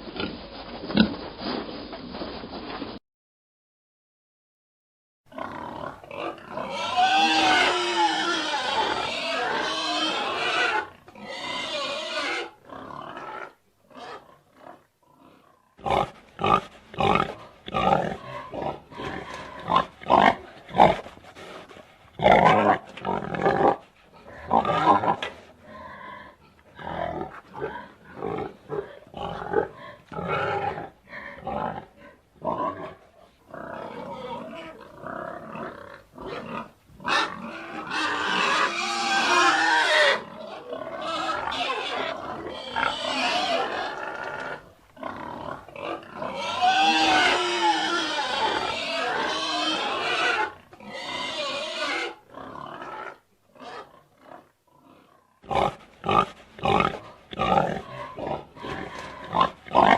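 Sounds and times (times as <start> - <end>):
pig grunts: 5.3 - 59.9
pigs squealing: 5.4 - 21.1, 22.2 - 59.9.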